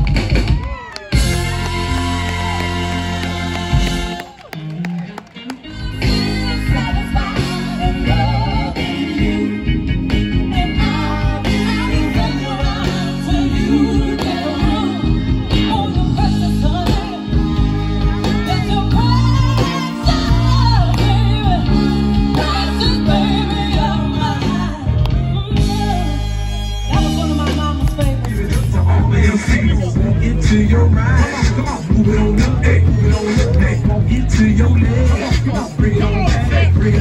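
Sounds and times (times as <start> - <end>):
live band music: 0.0 - 37.0
woman singing through speakers: 5.6 - 37.0.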